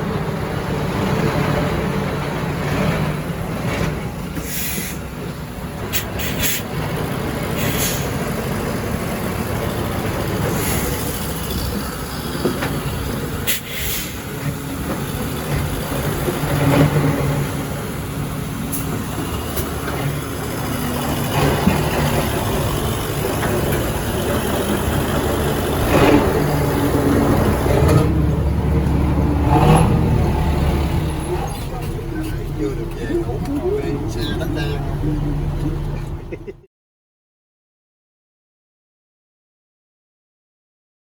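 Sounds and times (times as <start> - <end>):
truck engine running: 0.0 - 36.6
street traffic: 0.0 - 36.7.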